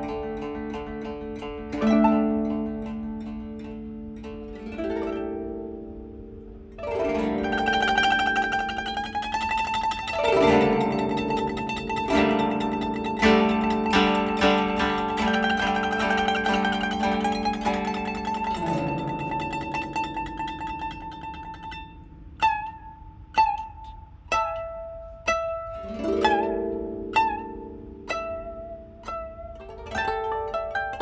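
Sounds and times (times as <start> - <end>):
koto duet plucked notes: 0.0 - 31.0.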